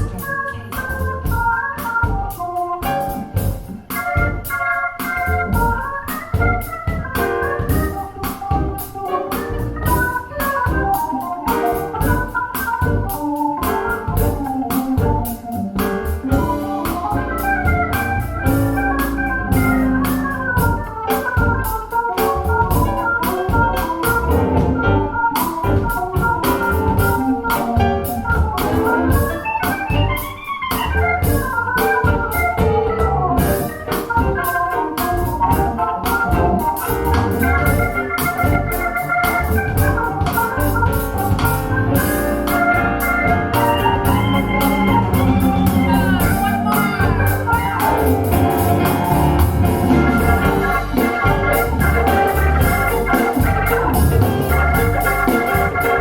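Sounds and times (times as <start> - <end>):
organ-like melody over bass: 0.0 - 56.0
percussive beat: 0.0 - 56.0.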